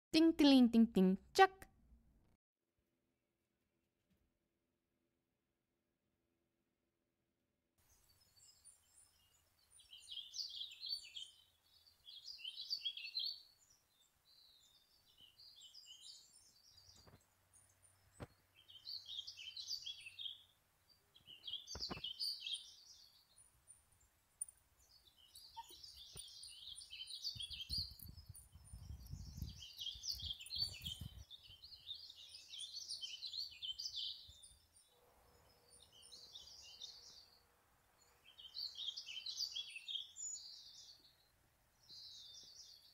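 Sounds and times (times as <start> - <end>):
small birds chirping and twittering: 7.8 - 42.9.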